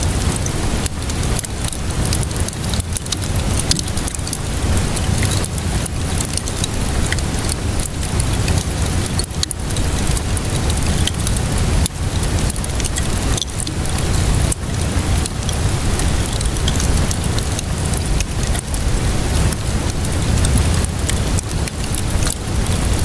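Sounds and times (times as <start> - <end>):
steady rainfall: 0.0 - 23.0
wood fire crackling: 0.0 - 23.0.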